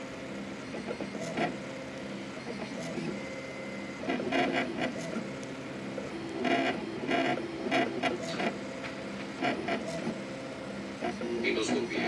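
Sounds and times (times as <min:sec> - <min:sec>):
steady hum: 0:00.0 - 0:12.0
stepper motors buzzing and whining: 0:00.0 - 0:12.0.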